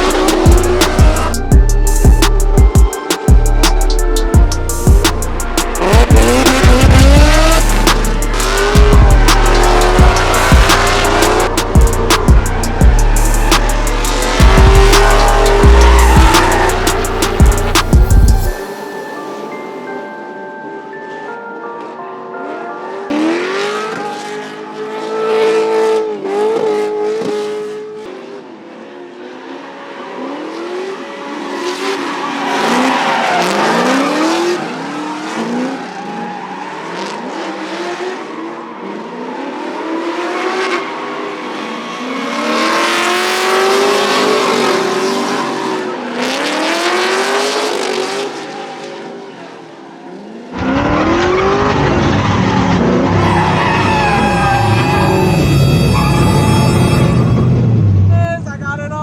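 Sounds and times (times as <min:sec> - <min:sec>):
car engines revving: 0:00.0 - 0:18.6, 0:23.1 - 0:58.6
tyres squealing and skidding: 0:00.0 - 0:19.5, 0:29.2 - 0:48.9, 0:50.0 - 0:58.3.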